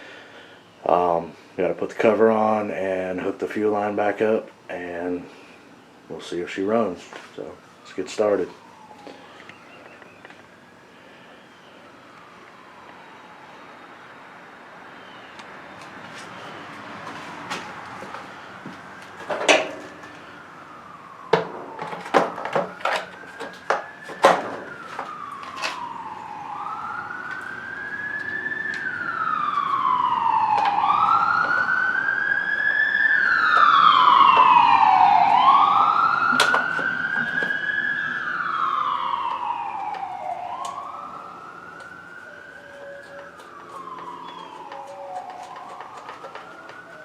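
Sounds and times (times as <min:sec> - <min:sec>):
emergency vehicle siren wailing: 0:00.6 - 0:47.0.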